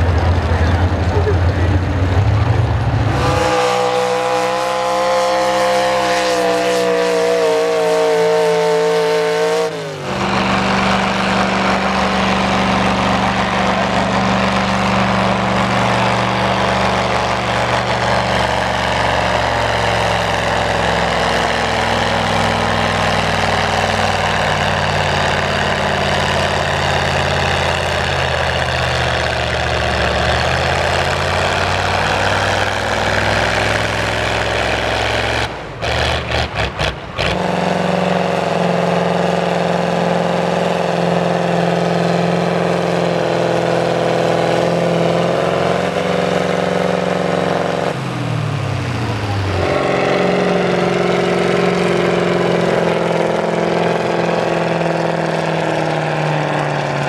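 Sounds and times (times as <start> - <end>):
diesel tractor engine running hard: 0.0 - 57.0.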